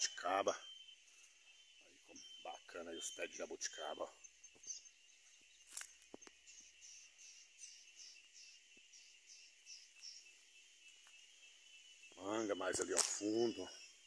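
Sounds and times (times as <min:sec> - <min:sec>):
insect chirping: 0:00.0 - 0:14.0
insects droning: 0:00.0 - 0:14.0.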